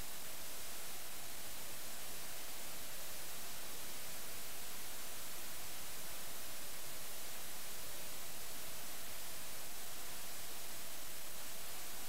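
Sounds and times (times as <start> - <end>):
steady microphone hiss: 0.0 - 12.0.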